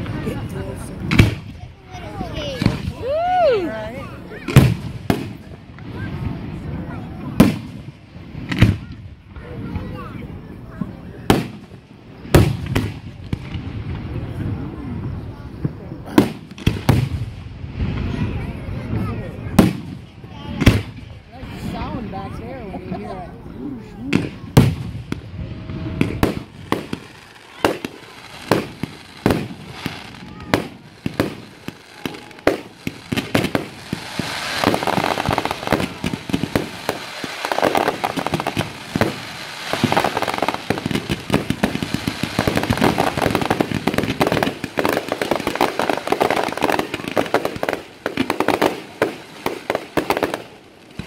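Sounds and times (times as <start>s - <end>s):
fireworks bangs: 0.0s - 22.5s, 24.0s - 51.0s.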